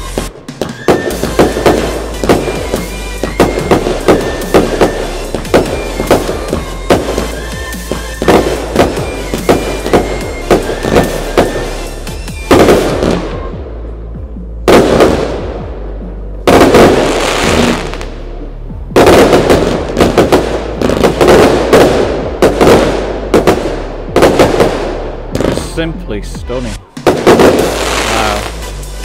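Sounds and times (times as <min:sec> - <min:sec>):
firework bangs: 0:00.0 - 0:13.7, 0:14.6 - 0:18.2, 0:18.9 - 0:26.0, 0:26.7 - 0:28.8.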